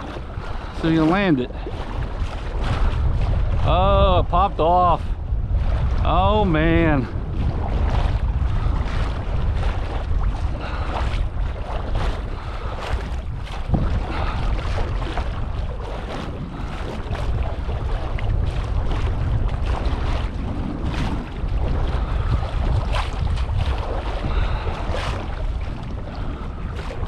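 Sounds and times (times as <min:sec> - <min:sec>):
small waves lapping: 0:00.0 - 0:27.0
wind buffeting microphone: 0:00.0 - 0:27.0.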